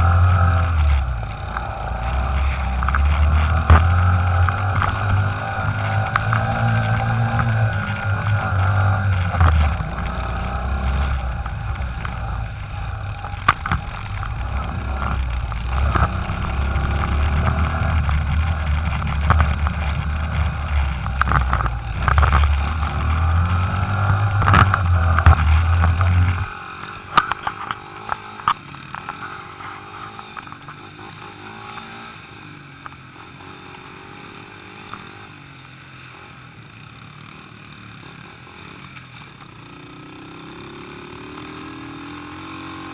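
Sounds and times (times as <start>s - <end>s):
pit bike engines running: 0.0s - 42.9s.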